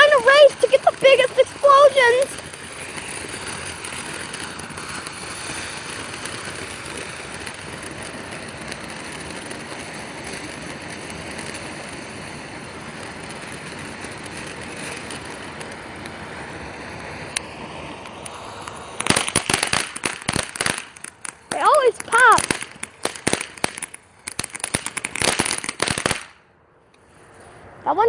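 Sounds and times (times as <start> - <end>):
fountain fireworks hissing and crackling: 0.0 - 26.4.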